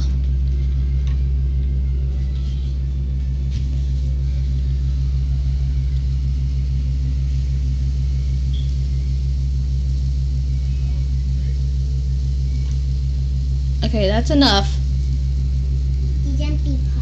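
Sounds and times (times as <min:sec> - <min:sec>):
low pulsing machine drone: 0:00.0 - 0:17.0.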